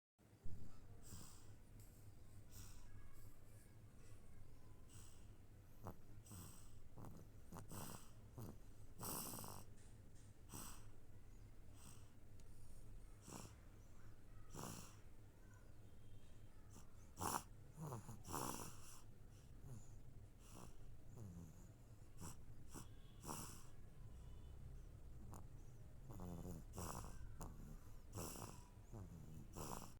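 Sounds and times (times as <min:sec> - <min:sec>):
baby snoring softly: 0:00.7 - 0:01.7, 0:02.4 - 0:03.4, 0:04.0 - 0:29.9.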